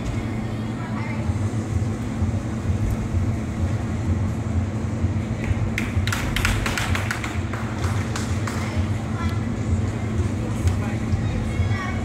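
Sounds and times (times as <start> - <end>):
indoor hall hum: 0.0 - 12.0.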